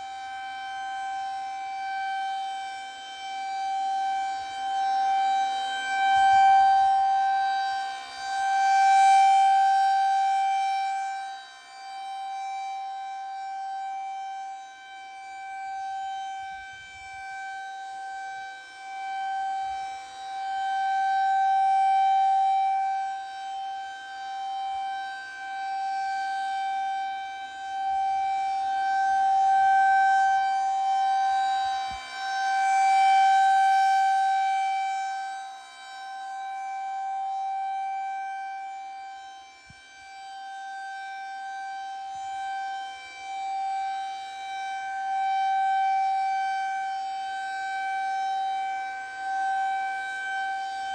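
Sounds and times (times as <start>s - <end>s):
warning siren steady tone: 0.0s - 50.9s.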